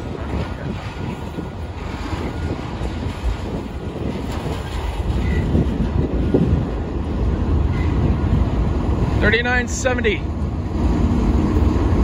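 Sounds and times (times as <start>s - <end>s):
rail clicks: 0.0s - 12.0s
train wheels rumbling on rail: 0.0s - 12.0s.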